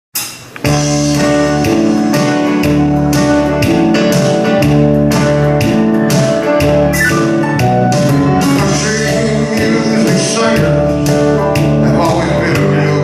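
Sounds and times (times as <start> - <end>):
electric guitar strumming: 0.2 - 13.0
live band music: 0.2 - 13.0.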